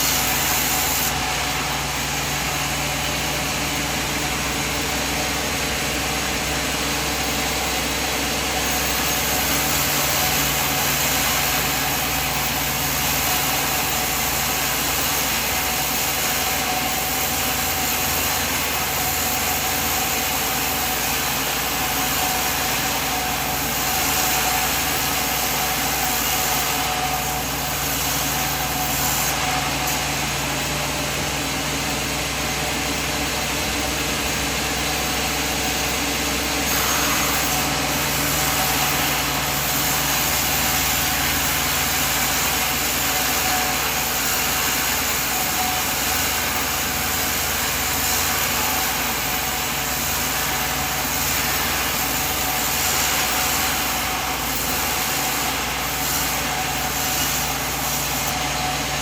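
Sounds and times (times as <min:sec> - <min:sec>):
sawmill machine droning: 0:00.0 - 0:59.0.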